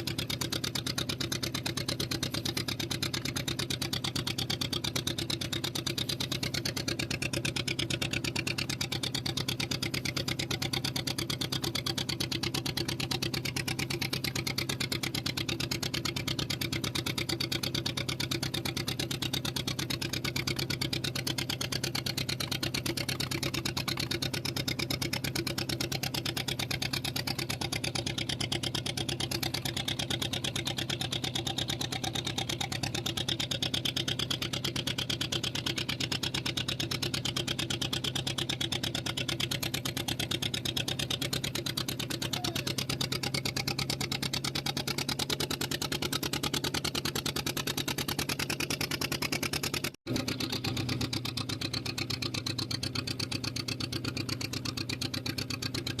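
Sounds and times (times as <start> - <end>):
boat engine humming: 0.0 - 56.0.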